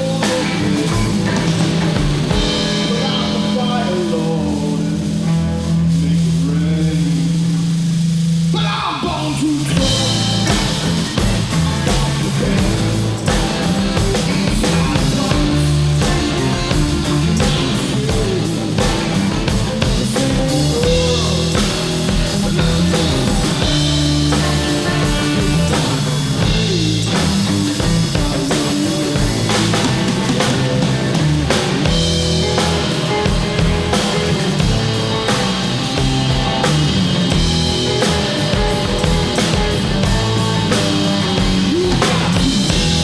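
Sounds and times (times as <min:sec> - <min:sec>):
blues-rock band playing: 0:00.0 - 0:43.0.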